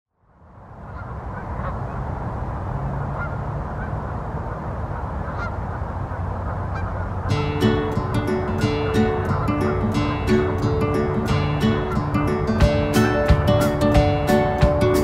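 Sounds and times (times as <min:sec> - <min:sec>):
rushing background noise: 0:00.3 - 0:15.0
geese honking: 0:00.9 - 0:02.0, 0:03.0 - 0:04.2, 0:04.8 - 0:15.0.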